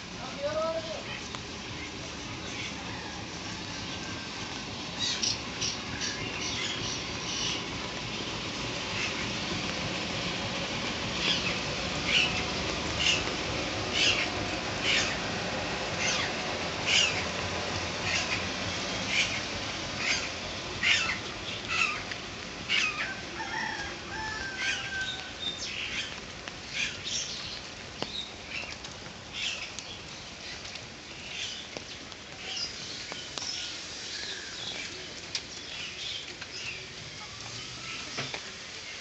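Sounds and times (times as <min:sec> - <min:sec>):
footsteps on wet pavement: 0:00.0 - 0:39.0.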